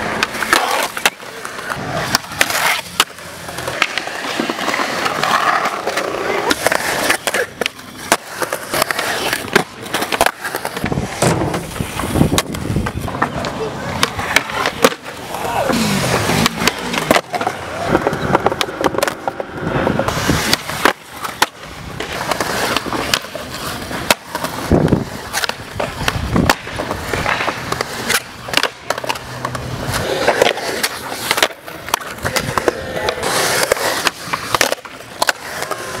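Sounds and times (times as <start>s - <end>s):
skateboard clacking: 0.0s - 36.0s
skateboard scraping ramp edges: 0.0s - 36.0s
skateboard wheels rolling on concrete: 0.0s - 36.0s.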